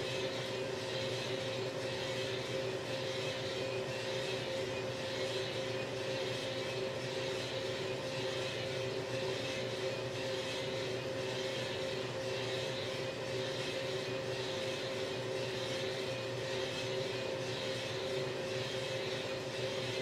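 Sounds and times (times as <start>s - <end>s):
motor and fan hum: 0.0s - 20.0s.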